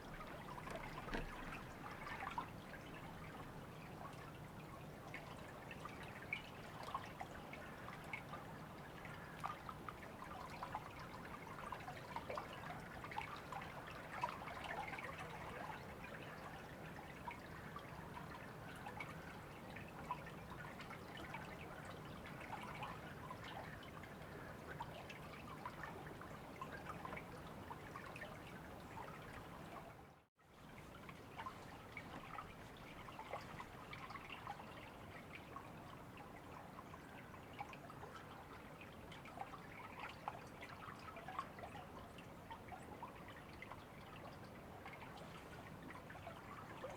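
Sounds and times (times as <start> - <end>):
river water babbling: 0.0 - 46.9.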